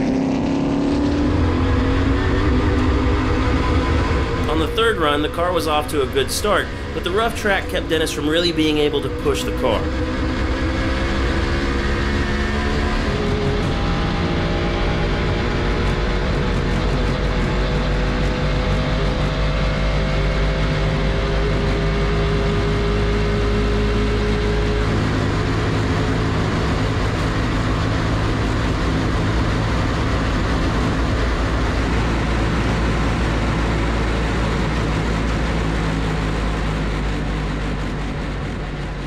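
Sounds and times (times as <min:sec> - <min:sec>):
race car engine: 0:00.0 - 0:39.0.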